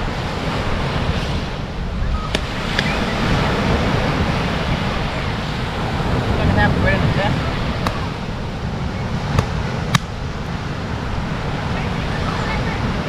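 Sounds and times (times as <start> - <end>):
surf: 0.0 - 13.0
wind rumbling on microphone: 0.0 - 13.0.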